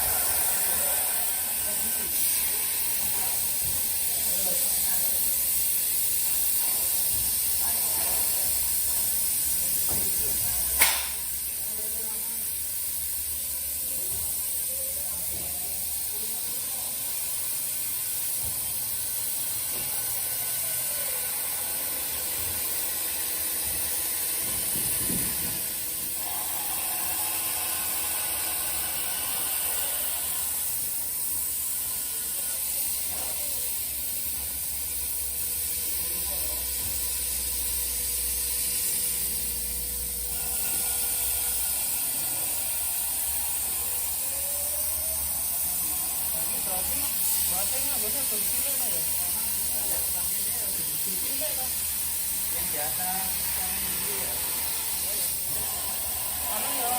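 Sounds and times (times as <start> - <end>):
plasma cutter hissing: 0.0 - 56.9.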